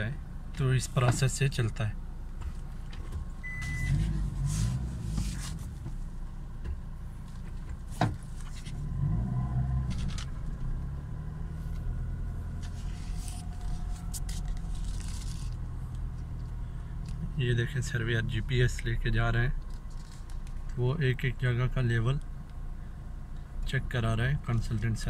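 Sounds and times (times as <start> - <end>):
vehicle rumbling on dirt road: 0.0 - 25.0.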